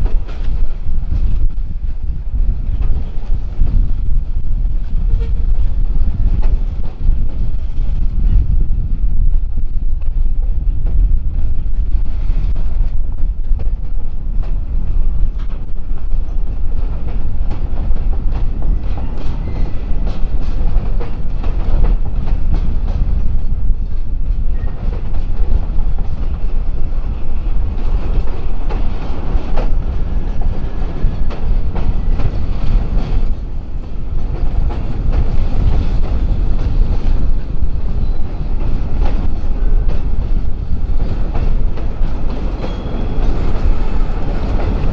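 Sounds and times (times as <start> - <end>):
freight train clattering past: 0.0 - 44.9.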